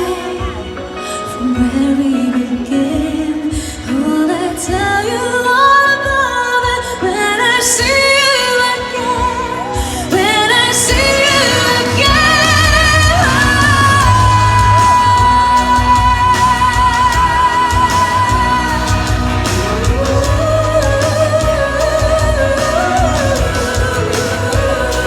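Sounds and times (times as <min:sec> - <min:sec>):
backing music: 0:00.0 - 0:25.0
woman singing pop ballad: 0:00.0 - 0:25.0.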